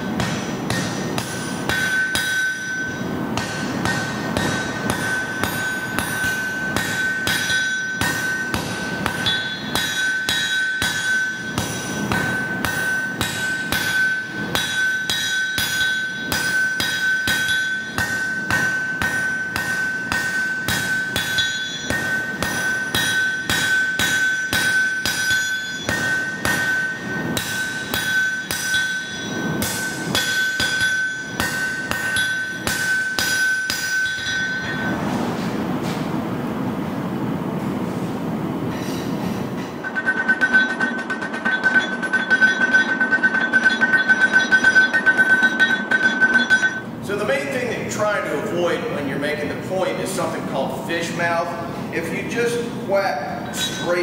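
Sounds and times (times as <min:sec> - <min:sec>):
anvil ringing: 0:00.0 - 0:36.1, 0:38.7 - 0:50.0, 0:53.4 - 0:54.0
hammer striking steel on anvil: 0:00.0 - 0:36.1, 0:38.7 - 0:50.0, 0:53.4 - 0:54.0.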